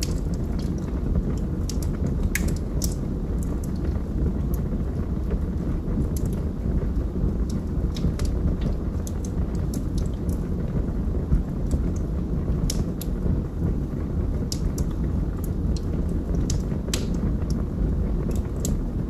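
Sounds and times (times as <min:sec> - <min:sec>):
flames rumbling: 0:00.0 - 0:19.0
logs crackling and popping: 0:00.0 - 0:19.0.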